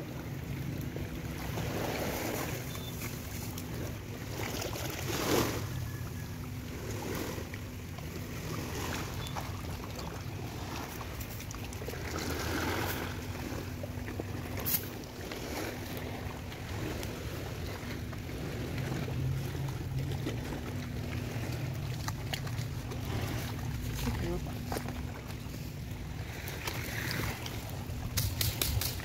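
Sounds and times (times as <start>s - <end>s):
small waves washing on shore: 0.0s - 29.0s
steady low hum: 0.0s - 29.0s.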